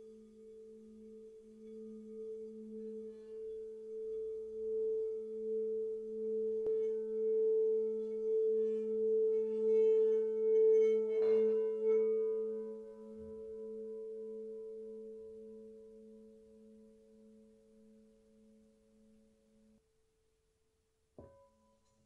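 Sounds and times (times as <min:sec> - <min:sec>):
singing bowls ringing: 0:00.0 - 0:19.8.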